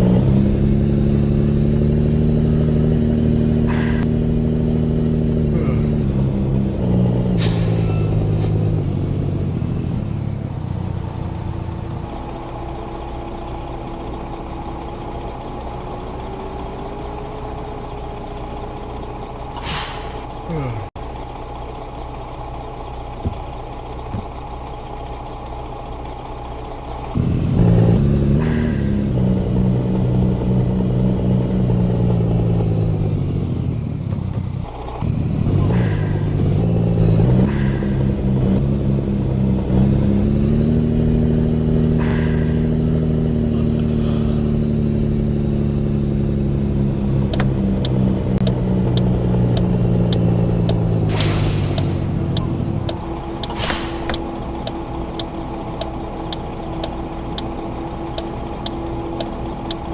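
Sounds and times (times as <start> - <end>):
truck diesel engine revving: 0.0 - 21.4, 22.0 - 59.9.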